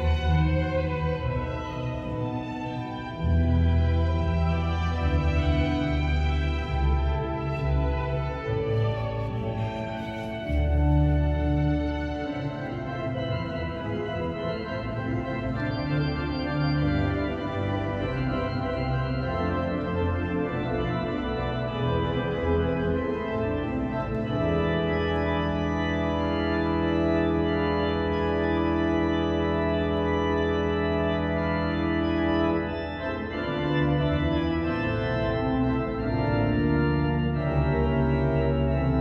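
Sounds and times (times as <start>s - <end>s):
organ playing chords: 0.0s - 39.0s.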